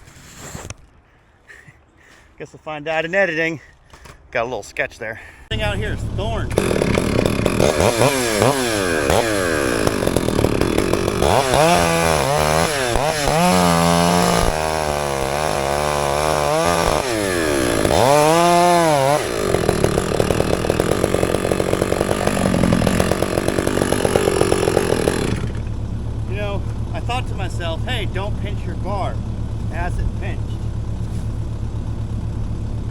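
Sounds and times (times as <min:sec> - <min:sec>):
chainsaw cutting and revving: 0:05.5 - 0:32.9.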